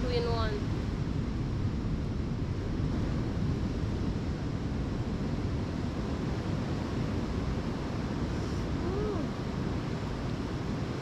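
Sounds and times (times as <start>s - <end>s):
ocean surf: 0.0s - 11.0s
wind rumble on microphone: 0.0s - 11.0s.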